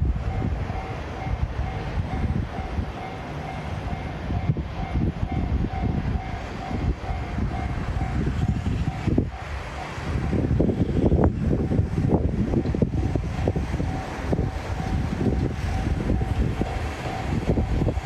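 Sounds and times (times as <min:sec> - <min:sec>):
crossing warning bell ringing: 0:00.0 - 0:10.6, 0:13.2 - 0:18.0
freight train passing: 0:00.0 - 0:18.0.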